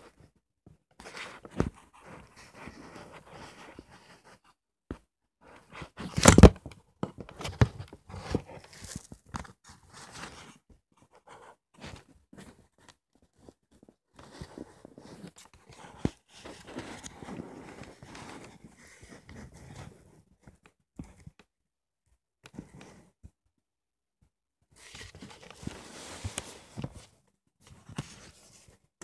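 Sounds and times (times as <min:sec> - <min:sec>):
handling rustling and scraping: 0:01.0 - 0:10.7, 0:11.3 - 0:21.3, 0:24.8 - 0:28.9.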